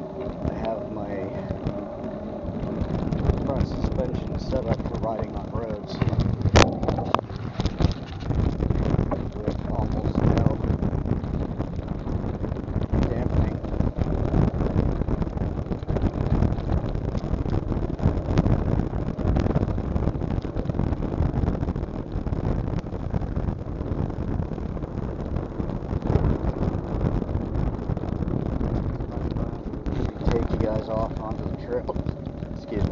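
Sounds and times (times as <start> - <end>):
wind buffeting camera microphone: 0.0 - 32.9.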